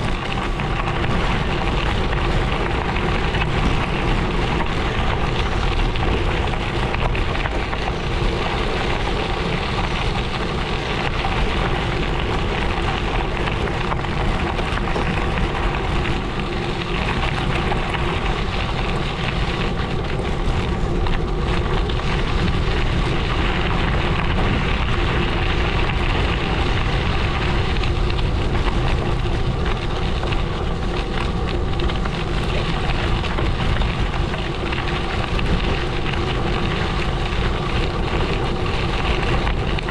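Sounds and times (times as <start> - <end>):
bike tyres crunching on gravel: 0.0 - 39.9.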